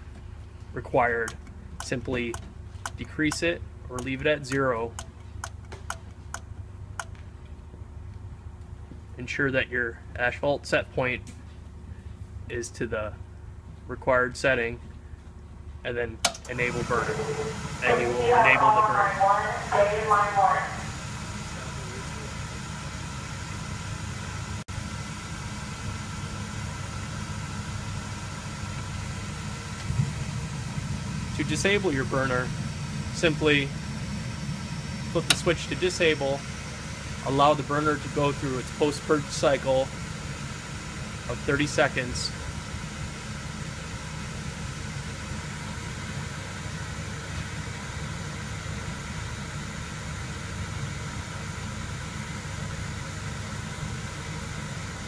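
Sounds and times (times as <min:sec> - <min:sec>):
burner blower running with hiss: 0:00.0 - 0:07.4, 0:16.0 - 0:55.0
low engine-like rumble: 0:00.0 - 0:55.0.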